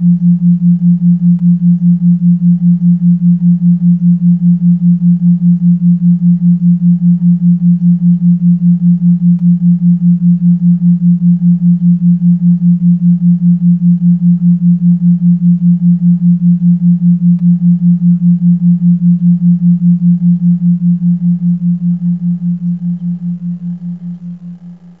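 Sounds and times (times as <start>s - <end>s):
low pulsing pure tone: 0.0s - 25.0s.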